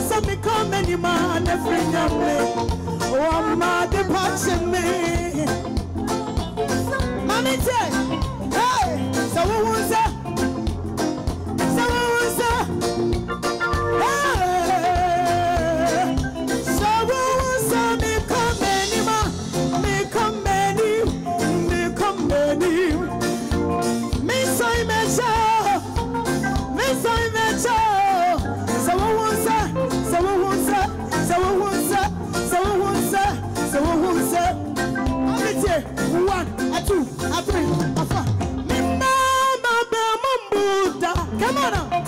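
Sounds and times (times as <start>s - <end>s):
woman singing lead: 0.0s - 10.4s, 11.6s - 12.9s, 13.7s - 42.0s
steady drum beat: 0.0s - 39.1s
live gospel band: 0.0s - 42.0s.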